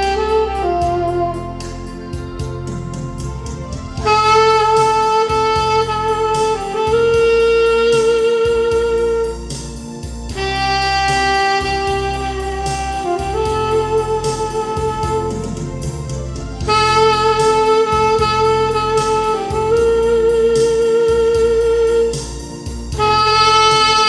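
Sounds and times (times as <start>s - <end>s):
alto saxophone melody: 0.0s - 24.0s
backing track with bass and beat: 0.0s - 24.0s.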